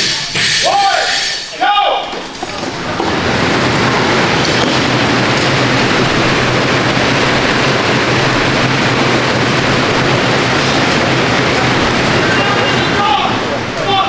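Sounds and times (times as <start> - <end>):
air bike fans whooshing: 0.0 - 14.0.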